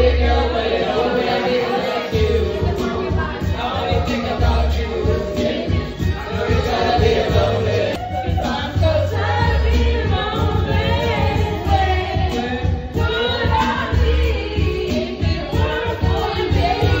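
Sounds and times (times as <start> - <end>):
loud music with heavy bass: 0.0 - 1.2, 2.1 - 17.0
two people singing: 0.0 - 17.0.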